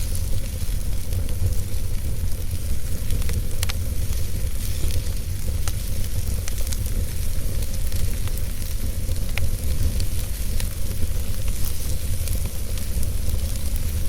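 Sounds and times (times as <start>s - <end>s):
burning logs crackling and popping: 0.0s - 14.0s
fire flames rumbling: 0.0s - 14.0s.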